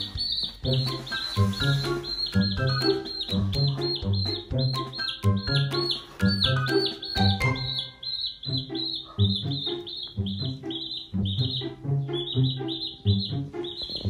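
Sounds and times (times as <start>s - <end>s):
baby chick peeping: 0.0s - 14.0s
background music: 0.0s - 14.0s.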